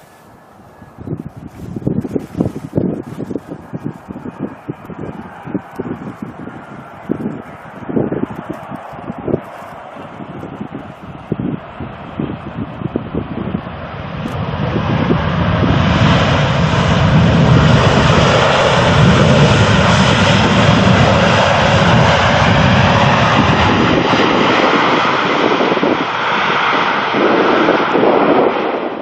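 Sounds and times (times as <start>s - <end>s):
jet airliner engines rumbling: 0.0s - 29.0s.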